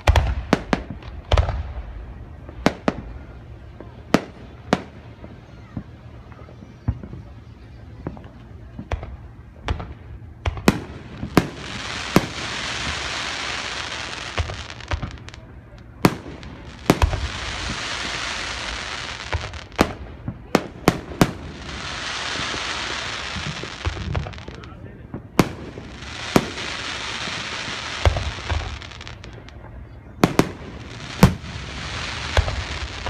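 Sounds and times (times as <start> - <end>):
firework hiss: 0.0 - 29.6, 30.2 - 33.0.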